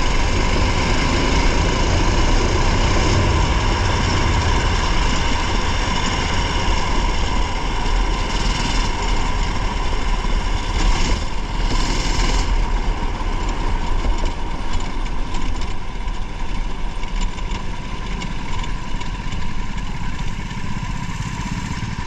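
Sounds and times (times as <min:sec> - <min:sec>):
race car engine running: 0:00.0 - 0:22.0
road and tyre noise: 0:00.0 - 0:22.0.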